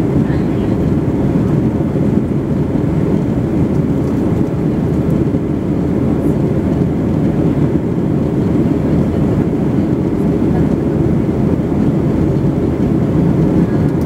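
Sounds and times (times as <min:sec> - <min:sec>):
jet cabin engine rush: 0:00.0 - 0:14.0.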